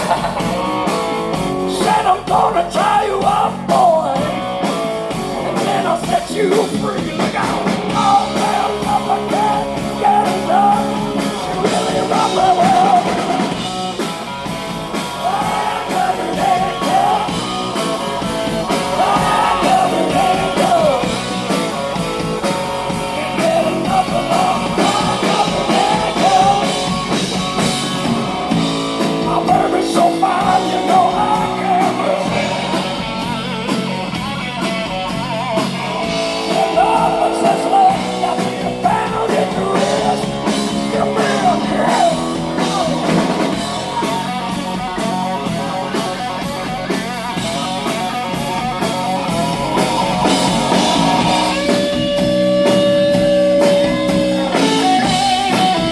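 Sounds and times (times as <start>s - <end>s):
bending lead guitar line: 0.0s - 55.9s
blues-rock band playing: 0.0s - 55.9s.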